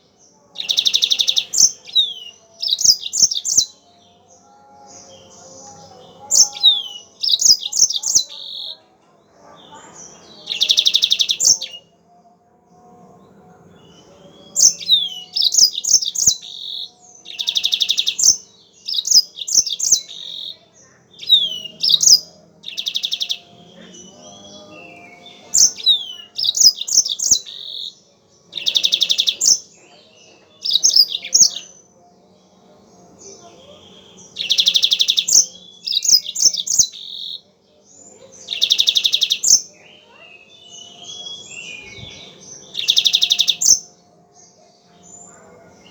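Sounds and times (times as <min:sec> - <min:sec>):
canary singing: 0:00.0 - 0:45.9.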